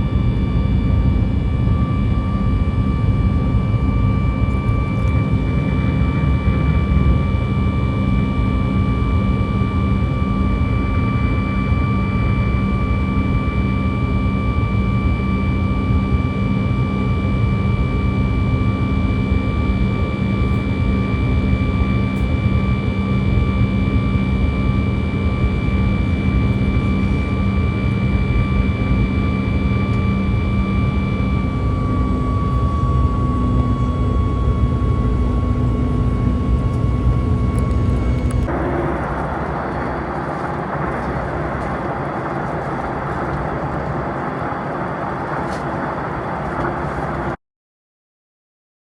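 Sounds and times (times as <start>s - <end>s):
jet engines heard in cabin: 0.0s - 47.4s.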